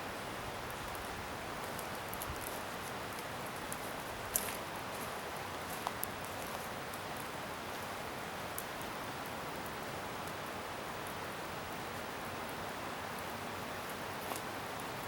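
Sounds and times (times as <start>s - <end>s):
bonfire hissing: 0.0s - 15.0s.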